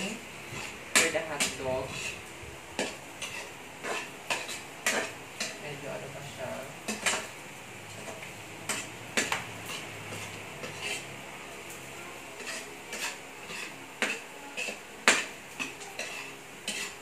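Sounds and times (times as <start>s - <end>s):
metal ladle scraping wok: 0.0s - 6.1s, 6.8s - 11.2s, 12.4s - 17.0s
hot dogs frying: 0.0s - 17.0s.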